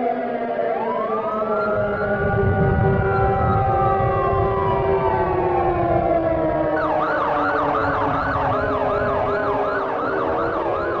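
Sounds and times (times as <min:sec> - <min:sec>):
fast wailing siren: 0:00.0 - 0:11.0
siren winding down: 0:00.8 - 0:11.0.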